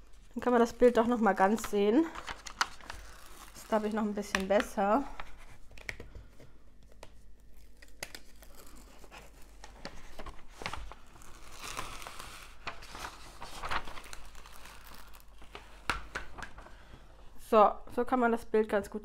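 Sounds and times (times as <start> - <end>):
plastic film crinkling: 0.0 - 6.1, 6.8 - 16.8.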